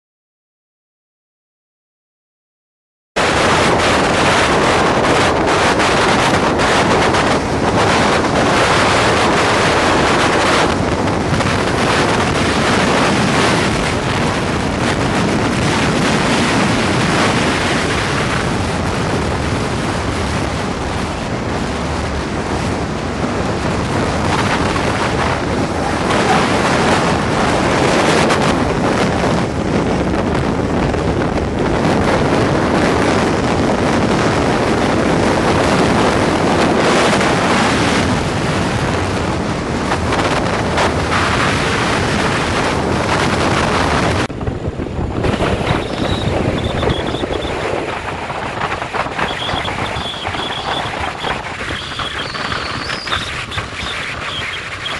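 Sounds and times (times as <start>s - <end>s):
wind buffeting microphone: 3.2s - 54.9s.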